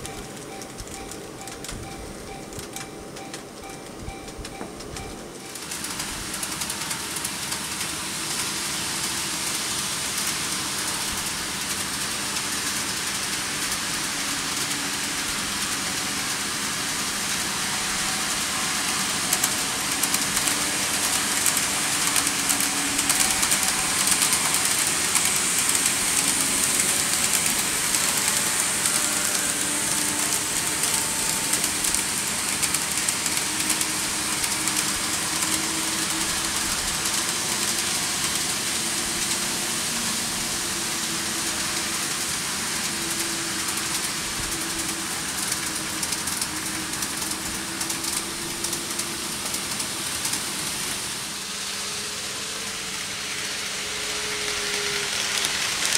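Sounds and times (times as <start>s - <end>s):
model train wheels rattling: 0.0s - 55.9s.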